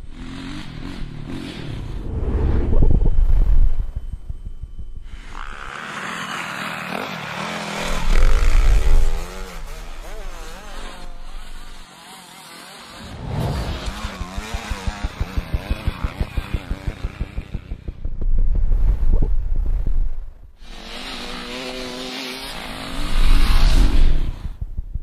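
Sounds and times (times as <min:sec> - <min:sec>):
dirt bike engines revving: 0:00.0 - 0:02.2, 0:04.0 - 0:18.4, 0:20.6 - 0:24.8.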